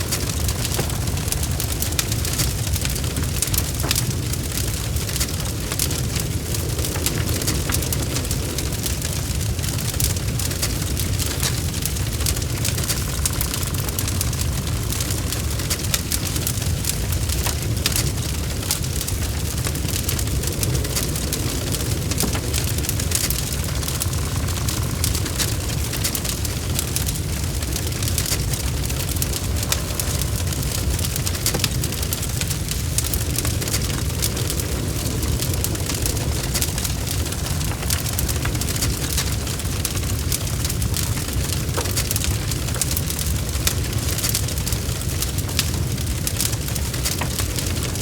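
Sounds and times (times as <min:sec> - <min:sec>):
fire crackling and popping: 0:00.0 - 0:48.0
low rumble of flames: 0:00.0 - 0:48.0.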